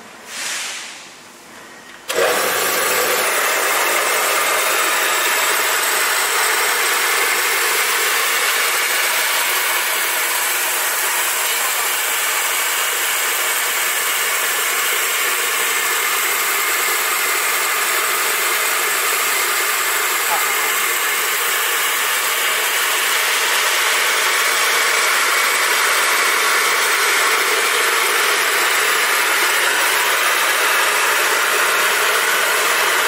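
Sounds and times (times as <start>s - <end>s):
rice mill whirring: 2.0s - 33.0s.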